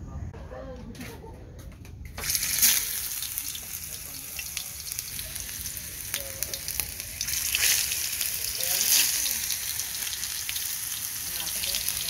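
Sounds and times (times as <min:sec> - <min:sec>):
tofu sizzling in hot oil: 0:02.2 - 0:12.0.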